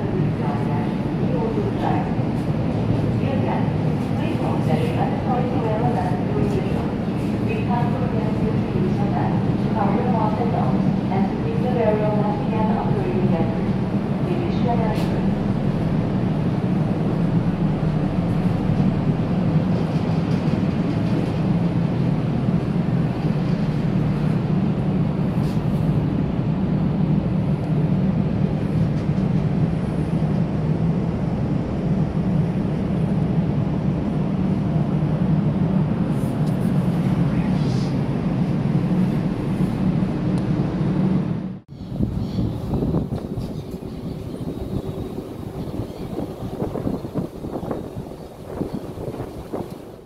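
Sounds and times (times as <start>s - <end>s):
ship engines droning: 0.0s - 50.0s.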